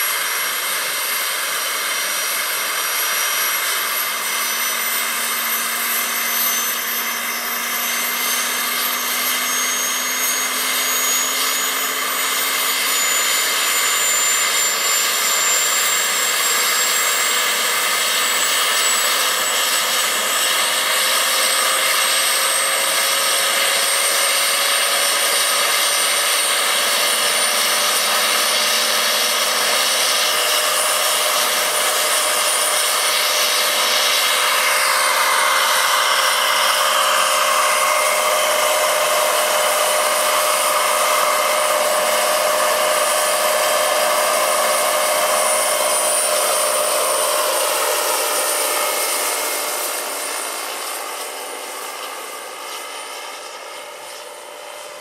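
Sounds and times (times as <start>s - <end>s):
model helicopter turbine whine: 0.0s - 55.0s.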